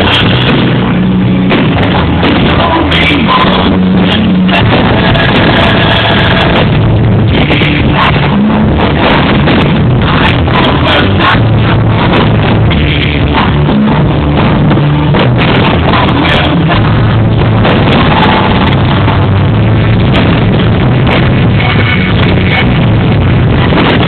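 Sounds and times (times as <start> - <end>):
loud compressed music: 0.0 - 24.0.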